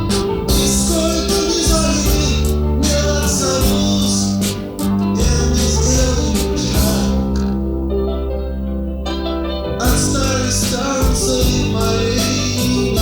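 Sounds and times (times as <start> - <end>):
drum kit: 0.0 - 7.6, 9.8 - 13.0
electric bass: 0.0 - 13.0
guitars playing: 0.0 - 13.0.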